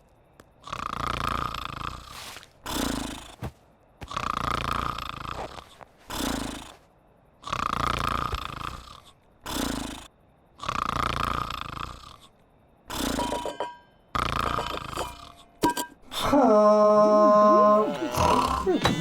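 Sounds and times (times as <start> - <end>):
cartoon sheep snoring: 0.6 - 13.5, 14.1 - 15.6, 17.0 - 19.0.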